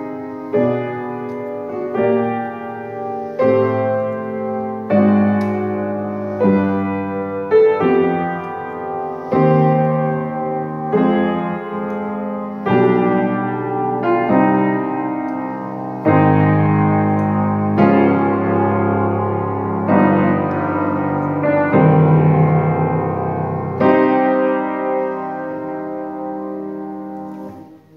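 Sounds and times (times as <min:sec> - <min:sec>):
grand piano chords: 0:00.0 - 0:27.9.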